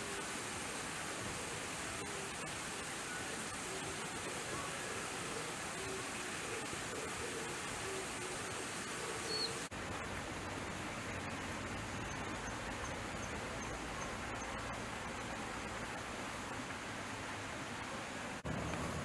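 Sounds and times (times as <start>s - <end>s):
outdoor ambient hiss: 0.0s - 19.0s.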